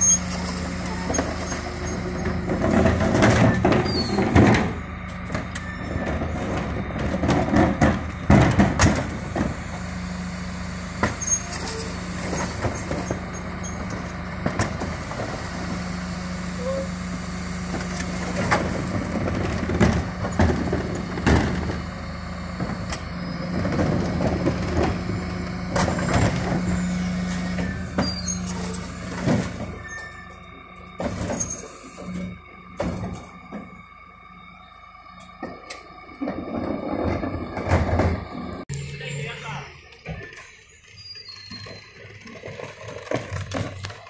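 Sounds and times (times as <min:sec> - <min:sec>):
garbage truck mechanical hum: 0:00.0 - 0:44.0.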